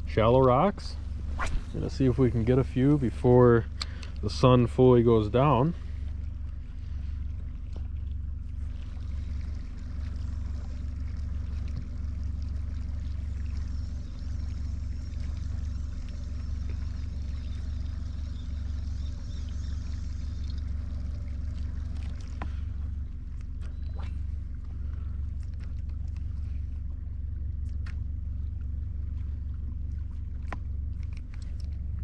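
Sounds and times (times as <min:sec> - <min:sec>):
electric trolling motor humming: 0:00.0 - 0:32.0.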